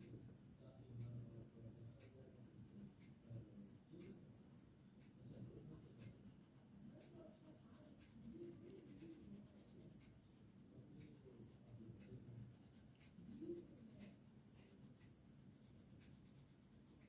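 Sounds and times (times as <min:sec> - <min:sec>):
pencil scratching on paper: 0:00.0 - 0:04.2, 0:05.0 - 0:17.0.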